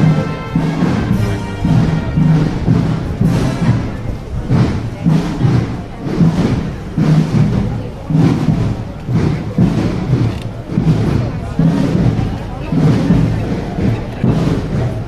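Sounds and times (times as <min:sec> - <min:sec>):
band playing slow march: 0:00.0 - 0:15.0
steady drum beat: 0:00.0 - 0:15.0.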